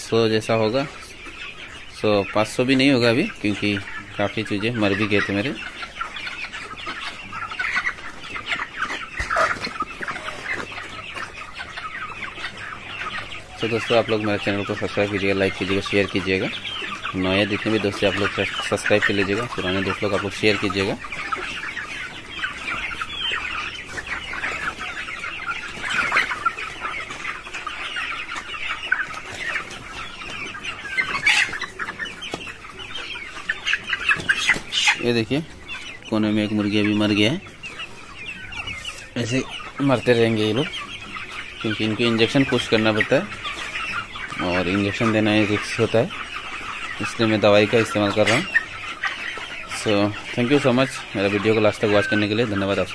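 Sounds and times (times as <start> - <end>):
chickens clucking and peeping: 0.0 - 52.9.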